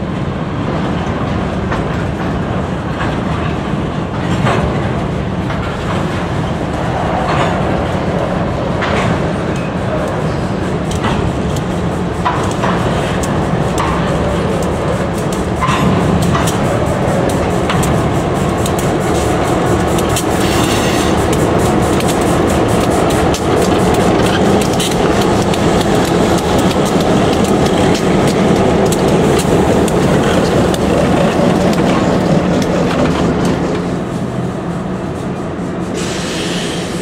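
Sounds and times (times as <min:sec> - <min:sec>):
diesel locomotive engines: 0:00.0 - 0:37.0
wheels clicking over rail joints: 0:00.7 - 0:34.2.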